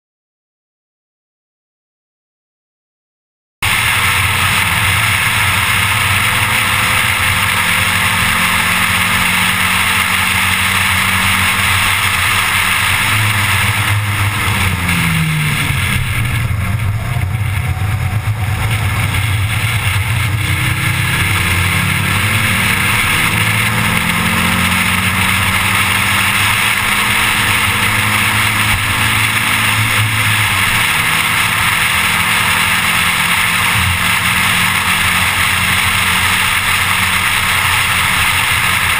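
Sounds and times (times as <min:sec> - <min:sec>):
car engine running hard: 0:03.6 - 0:38.9
wind and road noise: 0:03.6 - 0:38.9.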